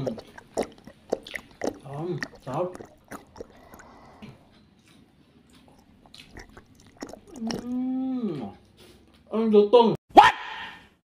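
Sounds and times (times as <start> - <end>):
man chewing with mouth clicks: 0.0 - 9.3.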